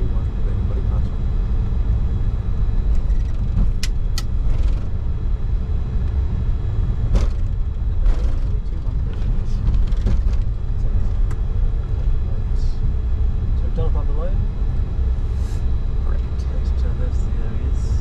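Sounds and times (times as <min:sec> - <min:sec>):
aircraft wheels rolling: 0:00.0 - 0:18.0
jet engines idling: 0:00.0 - 0:18.0.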